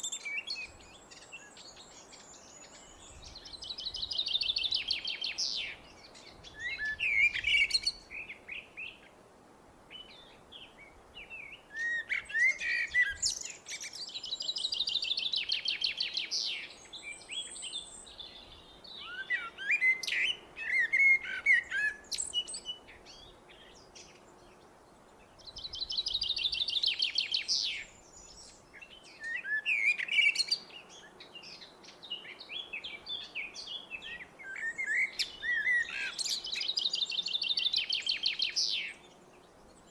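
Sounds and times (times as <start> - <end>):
blackbird singing: 0.0 - 9.0, 9.9 - 24.2, 25.4 - 39.9.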